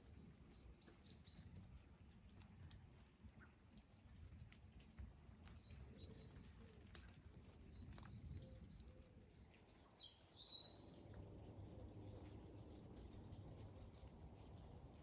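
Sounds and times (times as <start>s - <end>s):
soft rain with drips: 0.0s - 15.0s.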